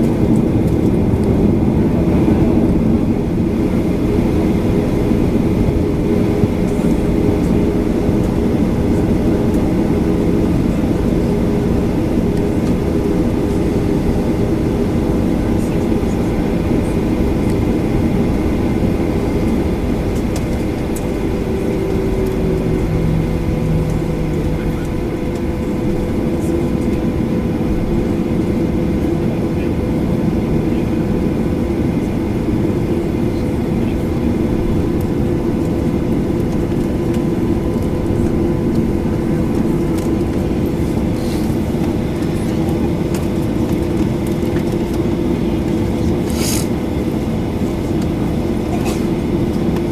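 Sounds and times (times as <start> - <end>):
airplane cabin rumble: 0.0 - 49.9
steady hum tones: 0.0 - 49.9.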